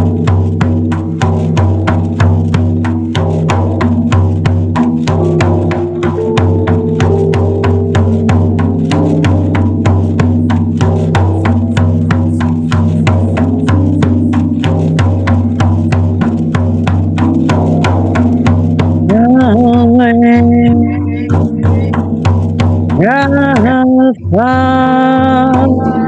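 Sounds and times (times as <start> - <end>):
drum beaten steadily: 0.0 - 26.0
sustained drone tones: 0.0 - 26.0.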